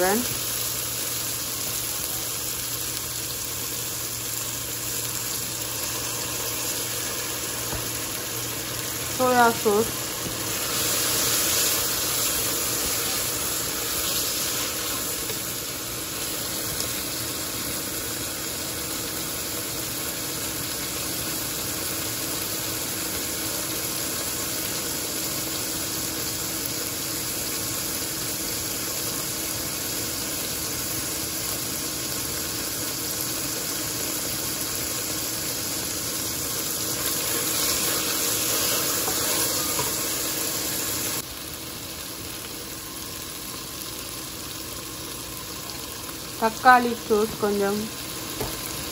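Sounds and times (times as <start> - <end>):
vegetables sizzling in hot oil: 0.0 - 48.9.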